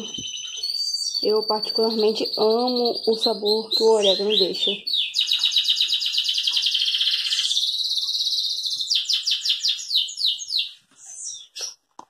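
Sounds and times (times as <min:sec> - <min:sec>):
songbird trilling and chirping: 0:00.0 - 0:11.8.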